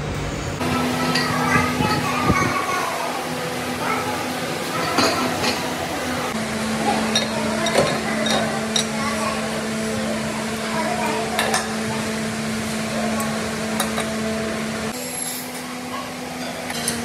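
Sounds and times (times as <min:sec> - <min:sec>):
workshop machine hum: 0:00.0 - 0:17.0.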